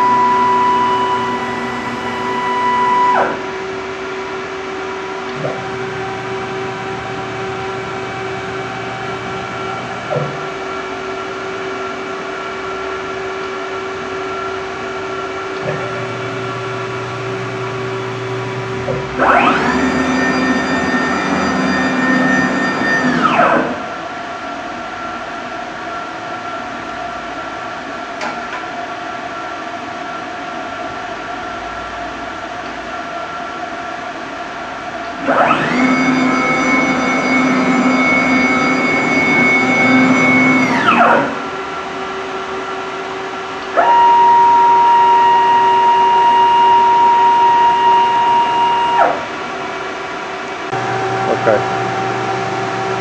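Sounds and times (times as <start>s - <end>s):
spindle high whine: 0.0s - 27.4s, 29.2s - 53.0s
steady machine hum: 0.0s - 28.0s, 32.1s - 53.0s
lower steady whine: 0.0s - 53.0s.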